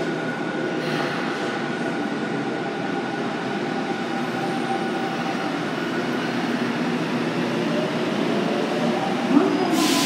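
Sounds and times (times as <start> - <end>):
subway train wheels rumbling: 0.0 - 10.0.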